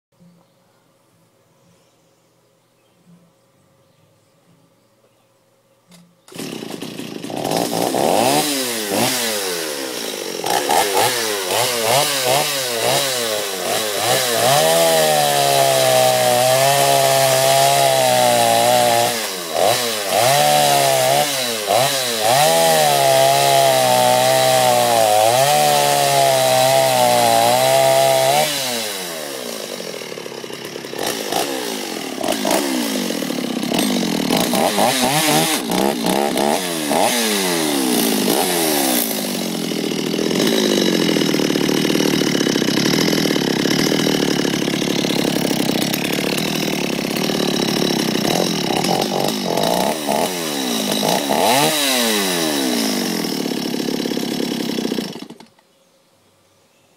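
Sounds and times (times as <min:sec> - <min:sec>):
chainsaw cutting log: 0:05.9 - 0:55.6.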